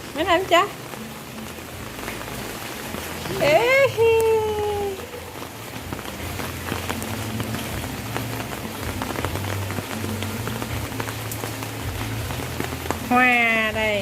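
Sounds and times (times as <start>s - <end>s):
rain on hard surfaces: 0.0s - 14.0s.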